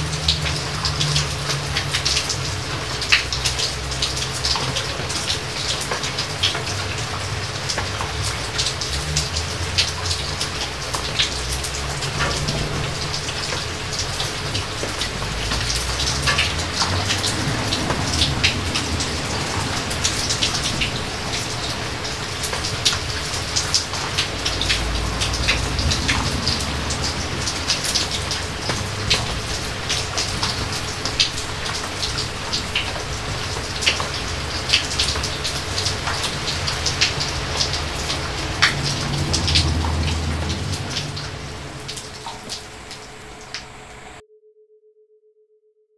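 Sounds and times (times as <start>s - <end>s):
distant thunder rumbles: 0.0s - 44.2s
heavy rain on foliage: 0.0s - 44.2s.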